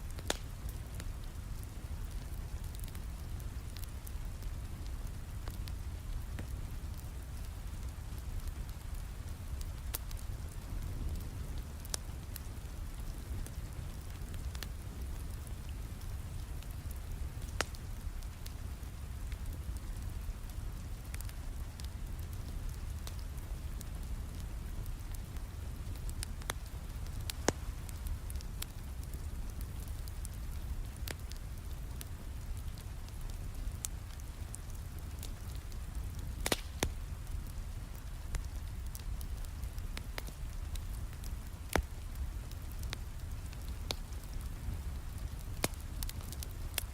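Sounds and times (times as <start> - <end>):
steady rain: 0.0 - 46.9
wood fire crackling and popping: 0.0 - 46.9.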